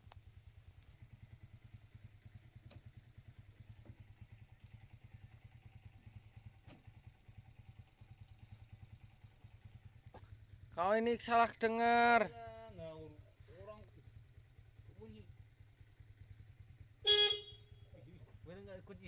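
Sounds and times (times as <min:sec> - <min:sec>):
diesel engine idling: 0:00.2 - 0:19.0.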